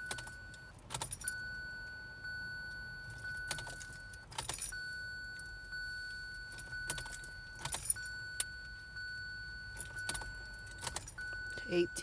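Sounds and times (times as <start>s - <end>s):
car keys jangling in ignition: 0.0s - 12.0s
dashboard warning chime: 0.0s - 12.0s.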